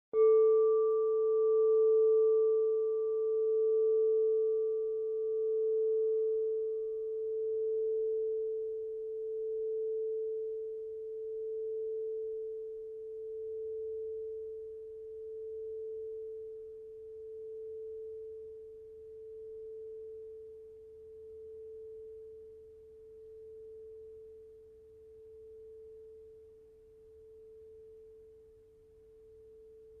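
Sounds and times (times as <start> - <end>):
crystal singing bowl ringing: 0.2 - 28.6.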